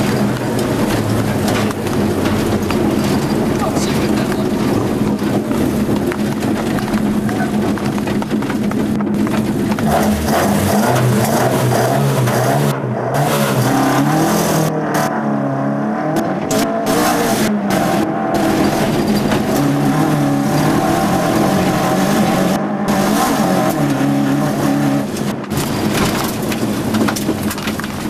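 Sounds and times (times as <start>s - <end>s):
car engine revving: 0.0s - 28.0s
tyres on gravel road noise: 0.0s - 28.0s.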